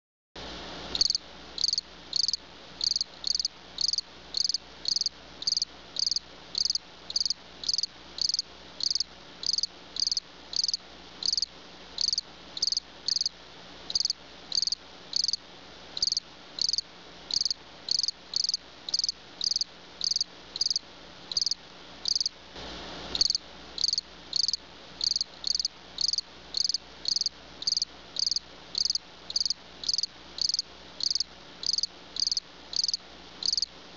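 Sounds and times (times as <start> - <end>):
insect chirping: 1.0 - 13.3, 13.9 - 15.4, 16.0 - 22.3, 23.2 - 33.7.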